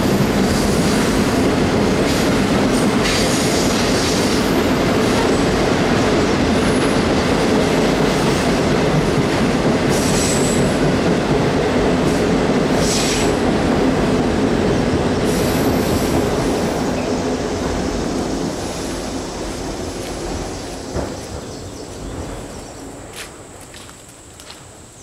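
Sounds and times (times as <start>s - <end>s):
train wheels rumbling on bridge: 0.0s - 24.9s.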